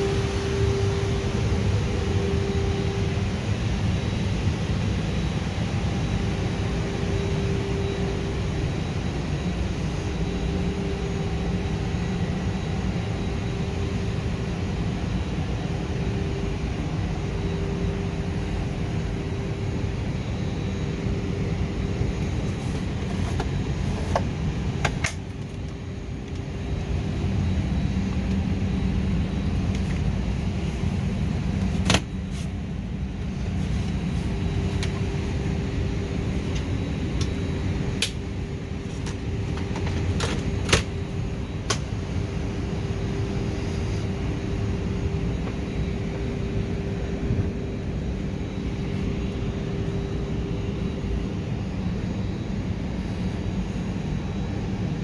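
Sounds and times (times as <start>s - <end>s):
airliner cabin engine noise: 0.0s - 55.0s
faint steady hum: 0.0s - 55.0s.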